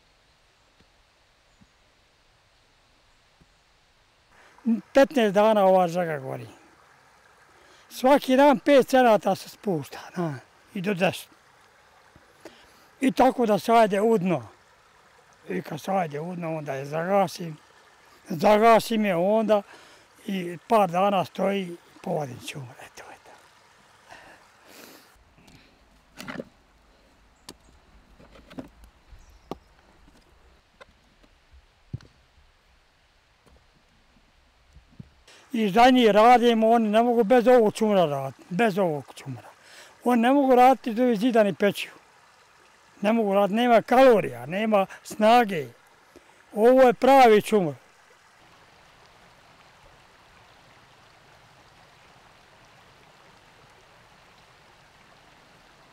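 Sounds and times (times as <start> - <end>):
faint steady hiss: 0.0 - 55.9
flowing river water: 0.0 - 55.9.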